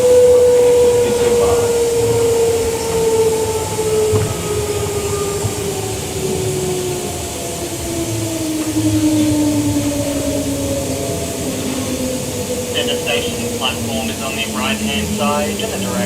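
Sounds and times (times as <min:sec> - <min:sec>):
electric train motor whine: 0:00.0 - 0:16.0
train rumbling on rails: 0:00.0 - 0:16.0.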